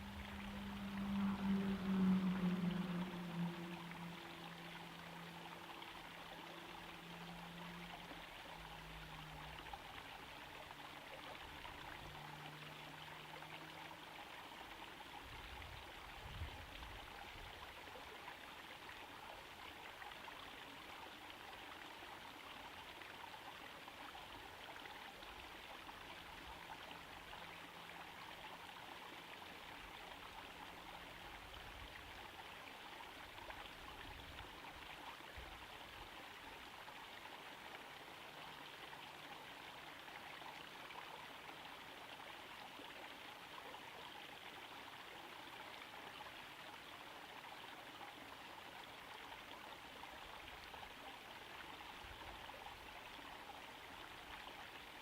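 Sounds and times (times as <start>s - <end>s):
waterfall trickling and splashing: 0.0s - 55.0s.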